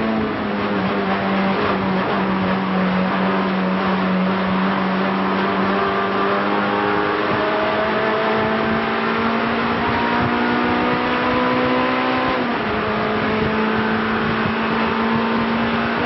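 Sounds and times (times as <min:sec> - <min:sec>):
race car engine: 0:00.0 - 0:16.0.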